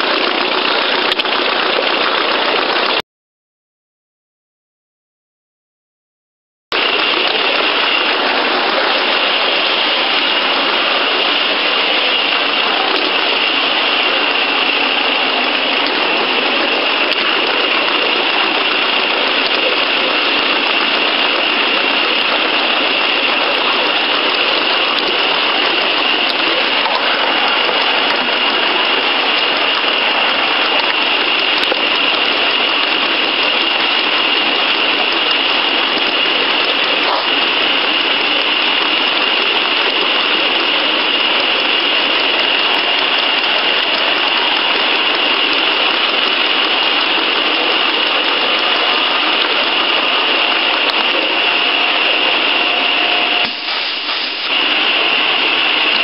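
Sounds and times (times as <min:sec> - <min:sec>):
steam locomotive hissing rush: 0:06.8 - 0:56.0.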